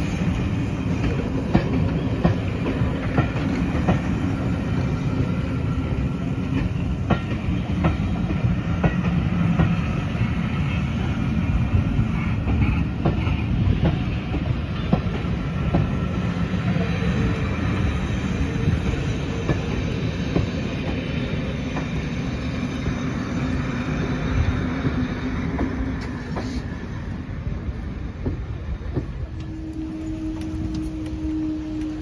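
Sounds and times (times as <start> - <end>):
train coaches rumbling past: 0.0 - 32.0.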